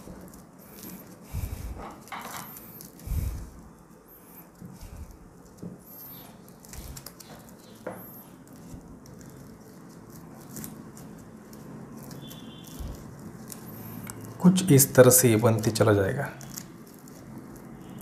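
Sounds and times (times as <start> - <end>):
rope strands rustling and scratching: 0.0 - 18.0.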